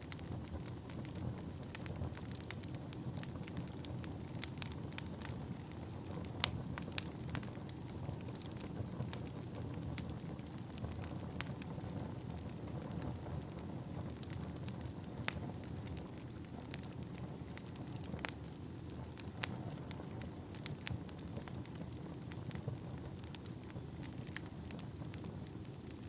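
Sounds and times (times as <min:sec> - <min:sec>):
wood fire rumbling: 0:00.0 - 0:26.0
logs crackling and popping: 0:00.1 - 0:26.0.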